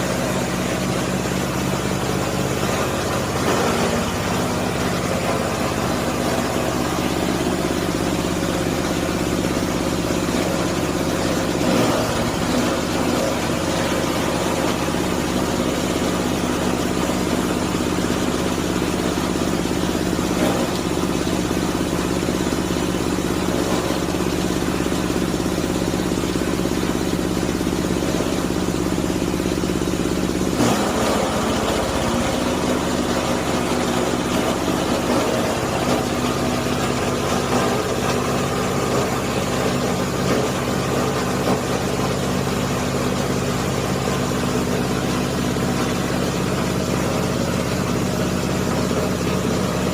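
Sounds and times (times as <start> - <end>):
grinding machine droning: 0.0 - 49.9.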